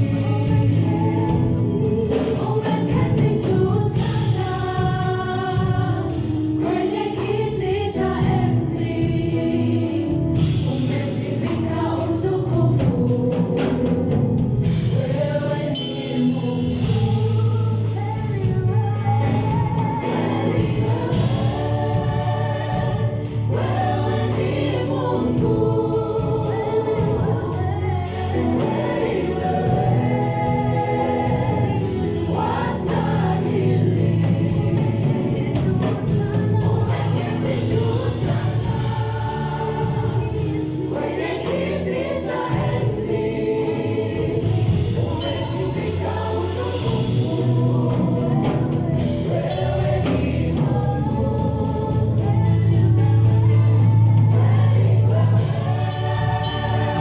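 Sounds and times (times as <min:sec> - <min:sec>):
gospel choir singing: 0:00.0 - 0:57.0
instrumental backing with percussion: 0:00.0 - 0:57.0.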